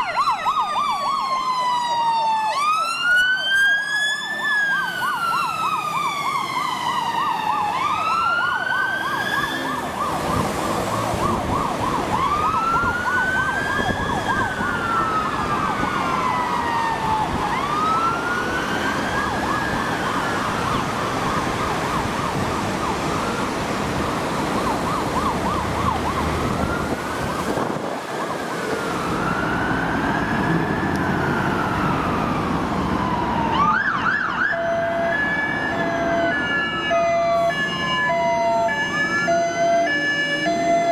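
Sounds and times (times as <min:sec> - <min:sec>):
fire engine siren wail: 0:00.0 - 0:40.9
fire engine siren yelp: 0:00.0 - 0:40.9
traffic noise: 0:00.0 - 0:40.9.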